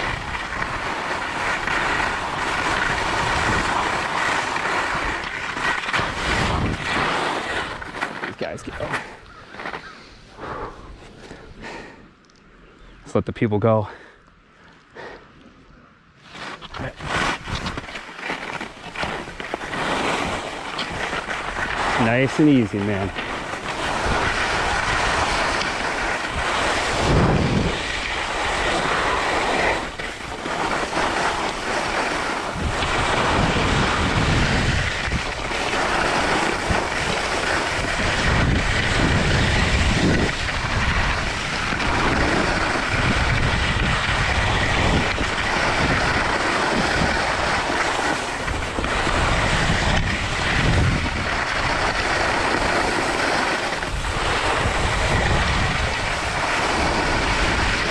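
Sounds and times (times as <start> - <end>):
wind buffeting microphone: 0.0 - 11.8, 18.8 - 57.9
skis scraping on snow: 0.0 - 12.0, 16.2 - 57.9.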